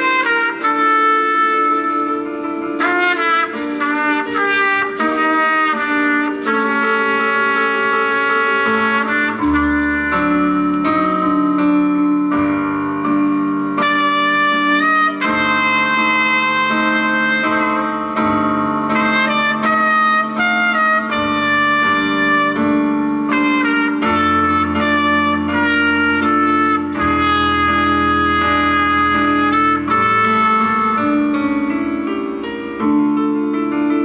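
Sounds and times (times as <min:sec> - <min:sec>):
piano accompaniment: 0:00.0 - 0:34.0
solo trumpet melody: 0:00.0 - 0:34.0.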